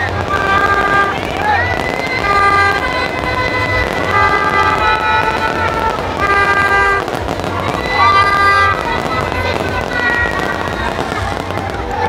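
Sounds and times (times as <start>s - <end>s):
horns tooting: 0.0s - 12.0s
loud background din: 0.0s - 12.0s.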